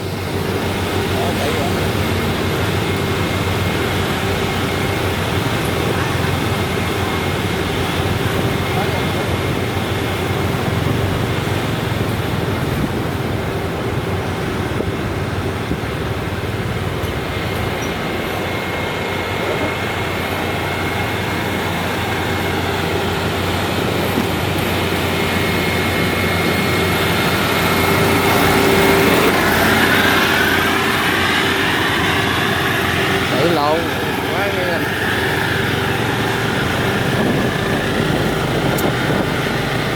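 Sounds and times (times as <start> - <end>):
engine and road noise: 0.0 - 39.9.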